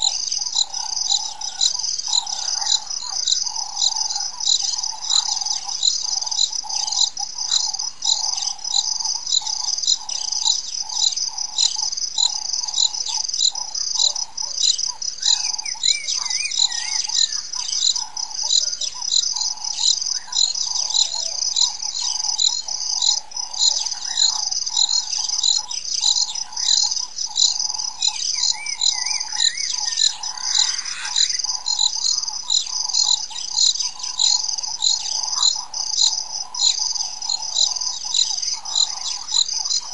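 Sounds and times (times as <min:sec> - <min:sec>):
crickets chirring: 0:00.0 - 0:39.9
low insect drone: 0:00.0 - 0:39.9
warbling bird calls: 0:00.0 - 0:39.9.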